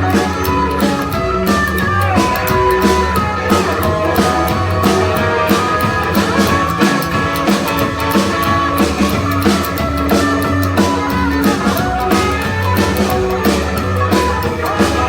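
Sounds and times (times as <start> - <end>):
electric guitar: 0.0 - 15.0
steady drum beat: 0.0 - 15.0.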